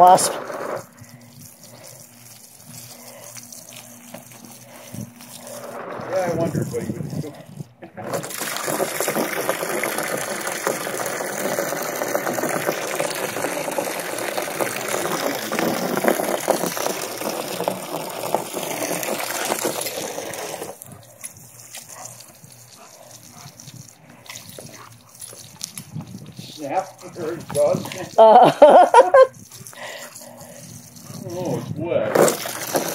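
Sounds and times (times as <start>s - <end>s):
hose water gushing and splashing: 0.0s - 32.9s.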